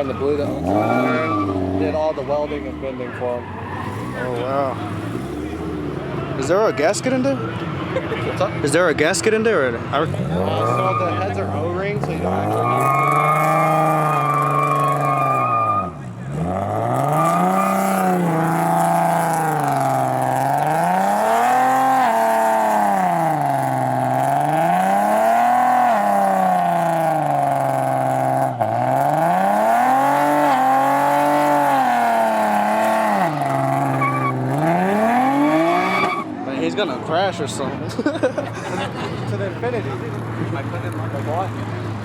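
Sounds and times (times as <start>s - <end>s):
car engine revving: 0.0s - 37.8s.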